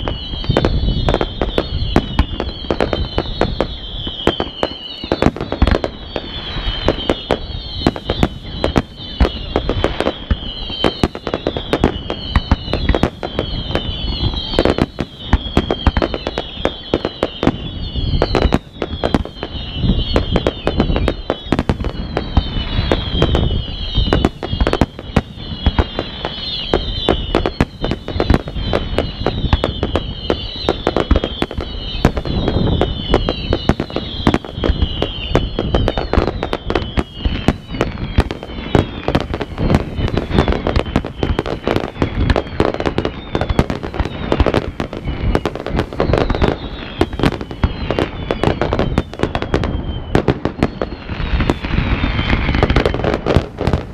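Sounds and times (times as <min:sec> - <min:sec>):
firework whistles falling in pitch: 0:00.0 - 0:53.9
fireworks bangs and crackling: 0:00.0 - 0:53.9.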